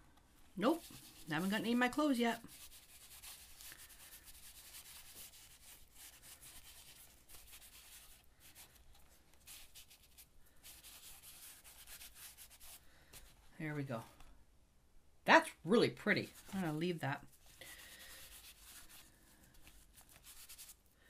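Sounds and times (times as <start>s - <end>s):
wipe scrubbing over paper: 0.6s - 13.4s, 16.2s - 20.9s.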